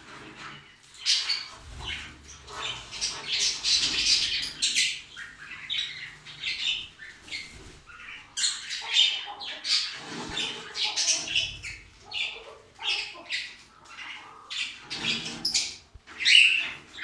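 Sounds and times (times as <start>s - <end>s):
parrots chirping and squawking: 0.1s - 17.0s.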